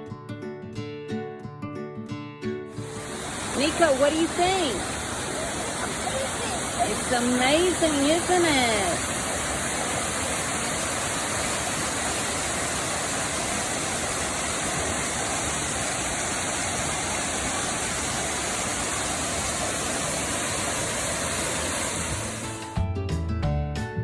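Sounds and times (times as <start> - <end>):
waterfall rushing: 2.8 - 22.7.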